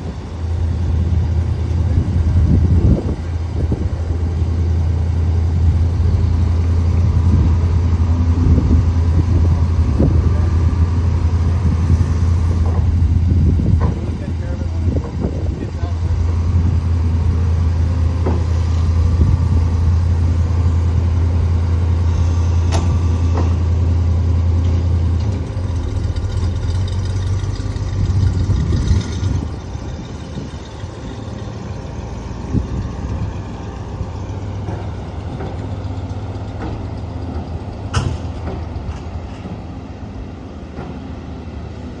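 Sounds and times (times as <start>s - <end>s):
truck engine idling: 0.0s - 40.7s.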